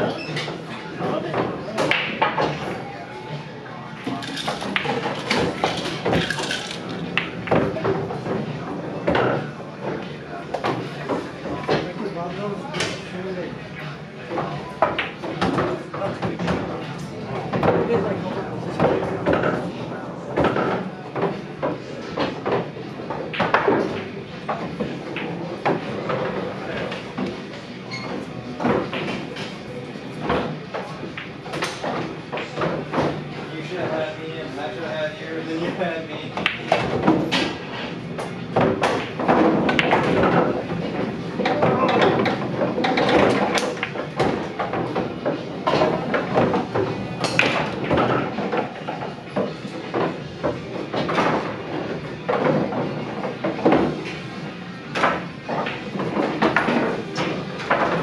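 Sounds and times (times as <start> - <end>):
pool balls clacking: 0.0 - 2.9, 4.0 - 12.1, 14.2 - 58.0
bar-room din: 0.0 - 58.0.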